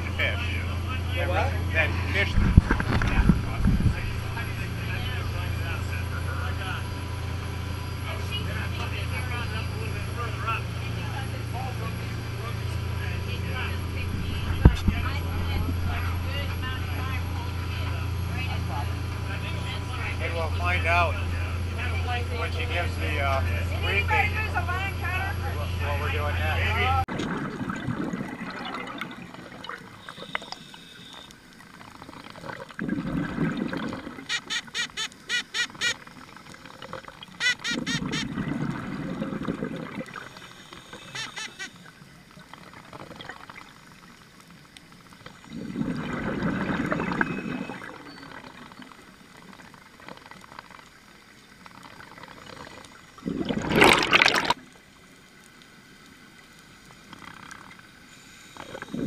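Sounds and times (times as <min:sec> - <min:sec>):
regulator bubbles gurgling: 0:00.0 - 0:59.0.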